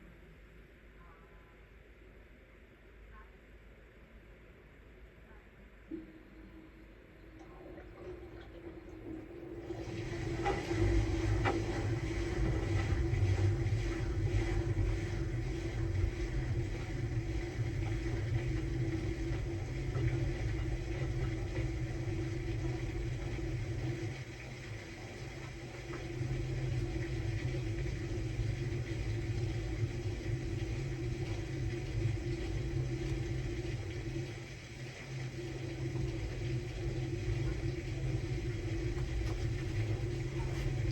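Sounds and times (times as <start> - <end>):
washing machine humming: 5.9 - 40.9
low rumble: 7.4 - 40.9.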